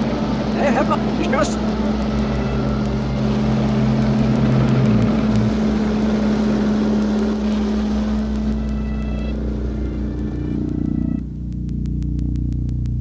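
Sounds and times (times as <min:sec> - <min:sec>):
cartoon truck engines droning: 0:00.0 - 0:12.5.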